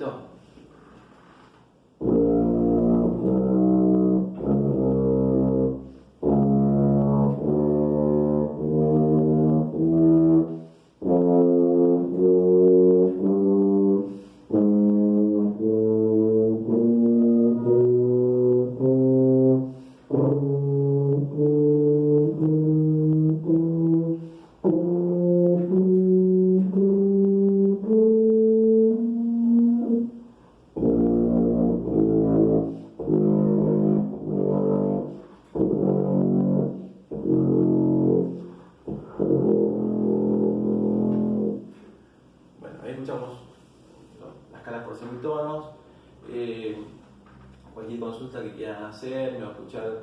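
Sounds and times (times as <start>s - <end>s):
tuba playing scales: 1.8s - 42.6s.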